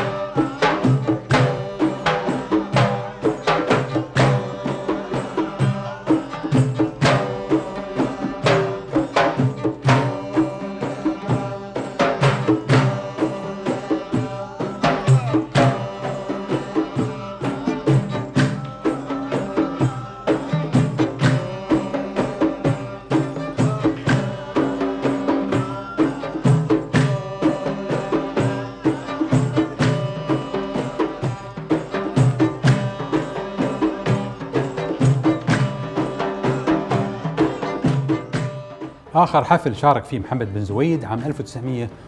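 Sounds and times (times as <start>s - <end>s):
plucked oud and qanun melody: 0.0s - 39.0s
frame drums beating: 0.0s - 40.0s.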